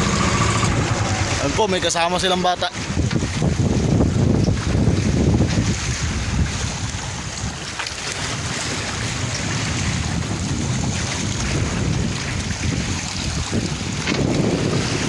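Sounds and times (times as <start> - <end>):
waves rushing and sloshing: 0.0 - 15.0
wind buffeting microphone: 0.0 - 15.0.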